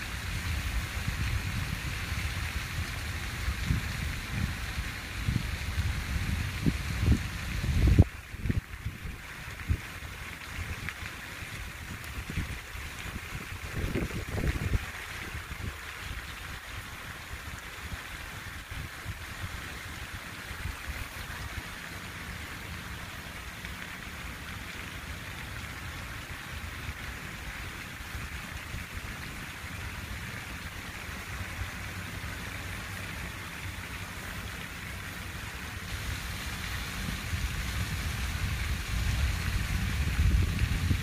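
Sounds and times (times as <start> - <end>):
water fountain splashing: 0.0 - 41.0.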